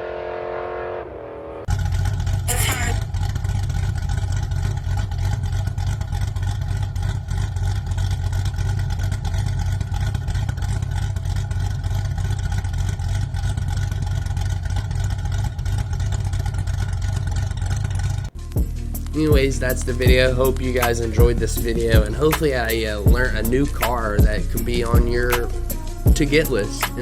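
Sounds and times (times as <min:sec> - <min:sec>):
car engine exhaust drone: 0:00.0 - 0:27.0.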